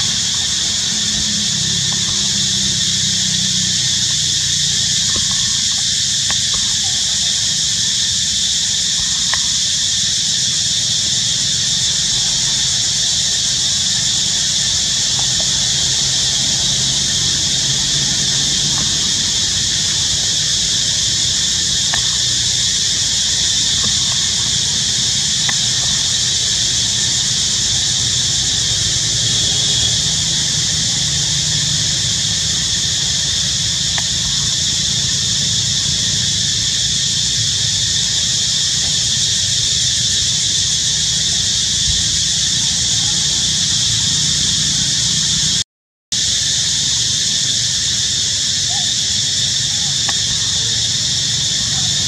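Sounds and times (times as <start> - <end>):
high-pitched insect chorus: 0.0 - 45.6, 46.2 - 52.0.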